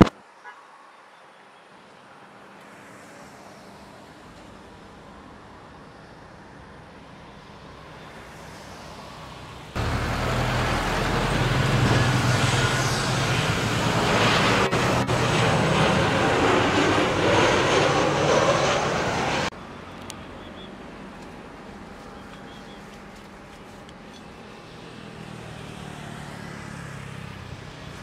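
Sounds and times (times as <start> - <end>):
distant airport noise: 1.8 - 28.0
jet airliner passing overhead: 2.2 - 28.0.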